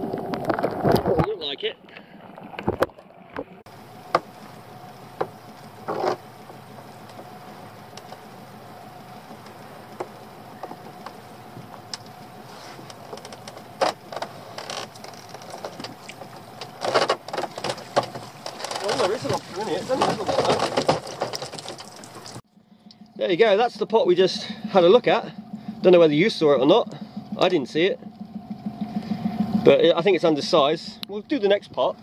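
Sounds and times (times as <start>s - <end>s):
outboard motor idling: 1.6s - 32.0s.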